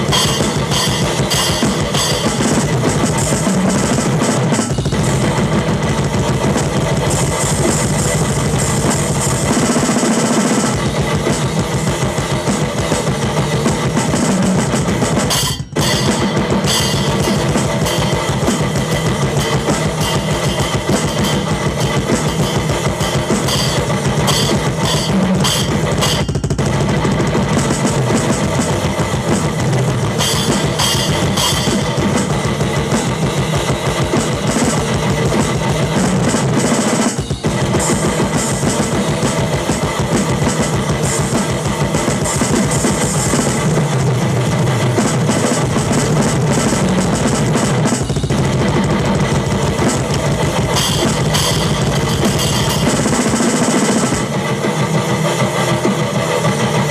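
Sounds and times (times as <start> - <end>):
drum kit in rock jam: 0.0 - 56.9.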